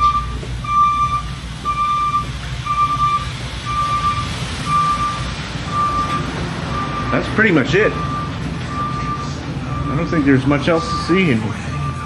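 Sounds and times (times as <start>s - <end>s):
truck backup alarm beeping: 0.0s - 12.0s
truck engine rumble: 0.0s - 12.0s.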